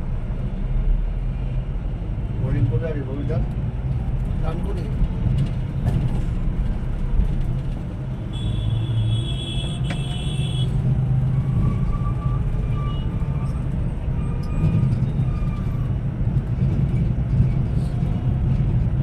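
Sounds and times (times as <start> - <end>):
traffic: 0.0 - 19.0
vehicle engine rumble: 0.0 - 19.0.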